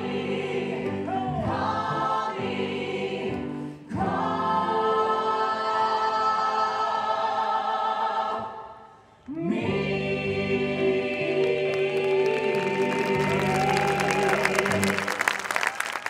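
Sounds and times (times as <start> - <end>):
choir holding sustained notes: 0.0 - 15.4.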